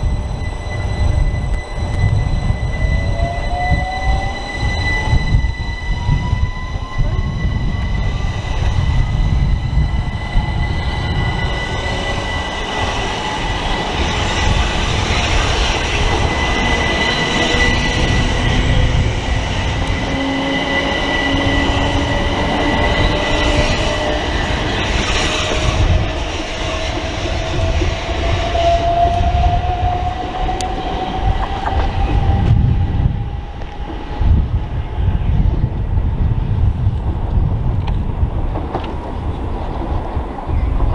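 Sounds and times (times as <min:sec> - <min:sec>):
train motors rising in pitch: 0:00.0 - 0:35.8
steady high whine: 0:00.0 - 0:40.9
train wheels rumbling on rails: 0:00.0 - 0:40.9.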